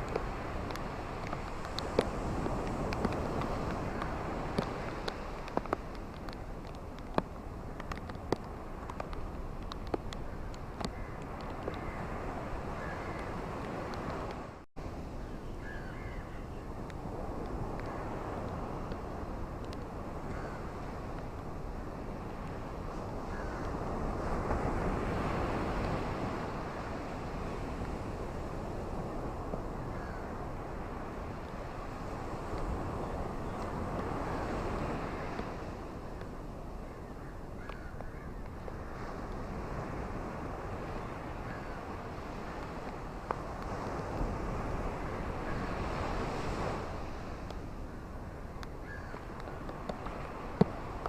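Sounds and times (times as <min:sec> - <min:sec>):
ocean waves rushing on shore: 0:00.0 - 0:15.2, 0:16.7 - 0:36.8, 0:38.5 - 0:51.0
wind: 0:00.0 - 0:51.0.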